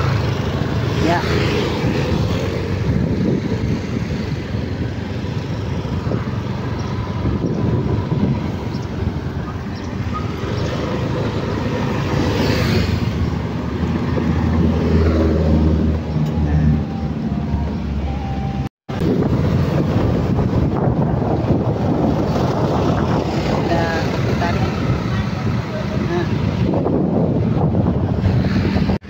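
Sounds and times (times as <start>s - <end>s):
wind buffeting microphone: 0.0s - 16.9s, 18.9s - 29.0s
road noise: 0.0s - 29.0s
vehicle engine: 0.0s - 29.0s.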